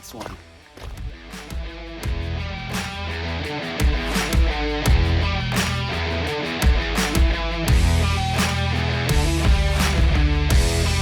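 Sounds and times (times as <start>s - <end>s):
rock music with guitar and drums: 0.6s - 11.0s.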